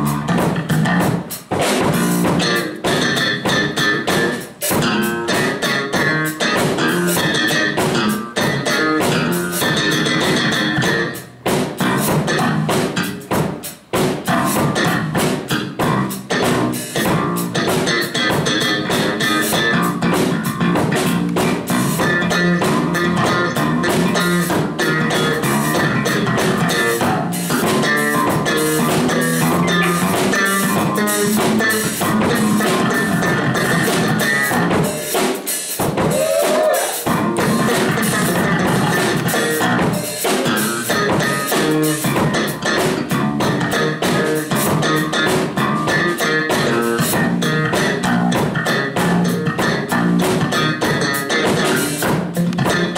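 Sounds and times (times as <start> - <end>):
blues band playing: 0.0 - 52.9
drum kit beat: 0.0 - 52.9
electric bass guitar: 0.0 - 52.9.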